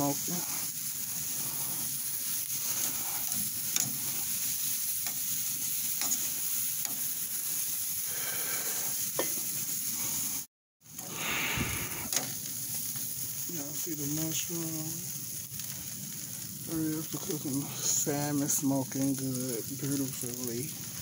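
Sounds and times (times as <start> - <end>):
asparagus sizzling on a grill: 0.0 - 21.0.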